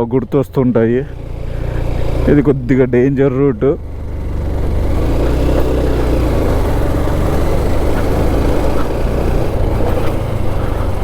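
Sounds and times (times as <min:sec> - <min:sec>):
motorcycle engine under load: 0:00.0 - 0:11.0.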